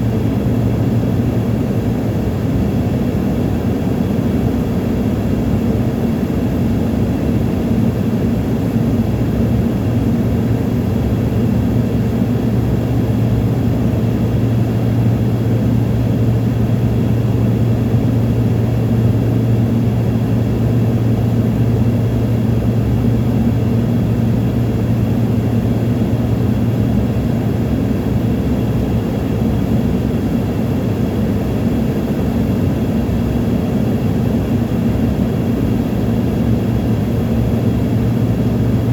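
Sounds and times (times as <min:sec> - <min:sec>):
airliner engines and airflow rush: 0:00.0 - 0:38.9.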